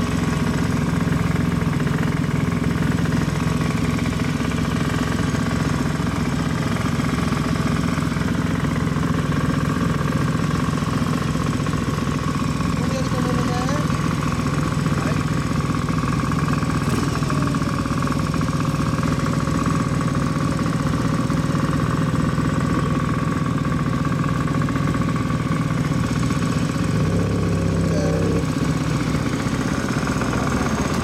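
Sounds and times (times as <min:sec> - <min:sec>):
motorcycle engines idling: 0:00.0 - 0:31.0.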